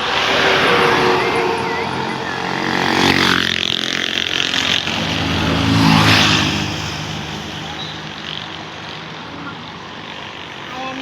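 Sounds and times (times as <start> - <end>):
bus engine revving past: 0.0 - 10.4.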